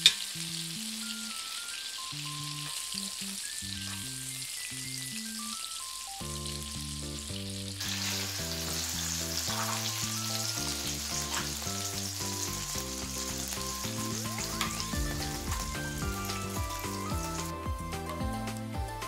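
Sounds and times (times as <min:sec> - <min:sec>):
meat sizzling in a skillet: 0:00.0 - 0:17.6
background music: 0:00.9 - 0:19.0.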